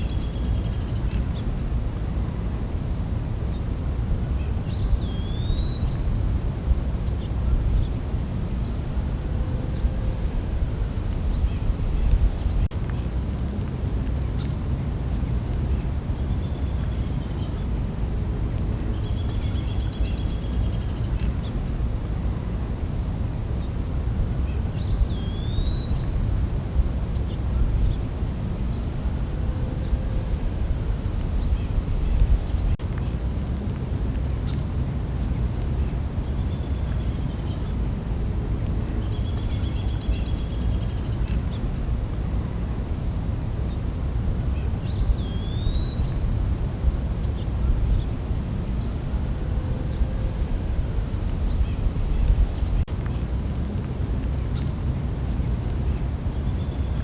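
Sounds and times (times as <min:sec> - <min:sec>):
low steady rumble: 0:00.0 - 0:56.9
crickets chirping: 0:00.0 - 0:57.0
high insect drone: 0:00.0 - 0:57.0.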